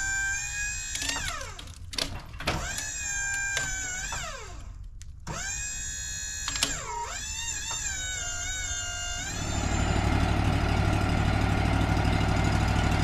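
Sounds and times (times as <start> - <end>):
hydraulic pump whining: 0.0 - 13.0.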